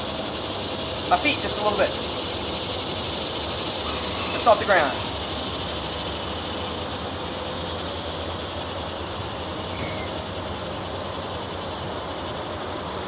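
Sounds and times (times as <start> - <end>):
high hiss: 0.0 - 13.0.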